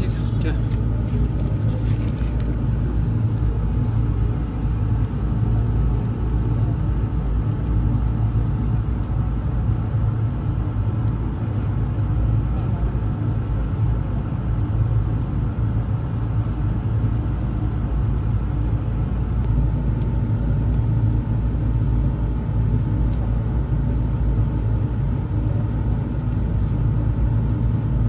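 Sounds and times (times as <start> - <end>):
low mechanical rumble with hum: 0.0 - 28.0.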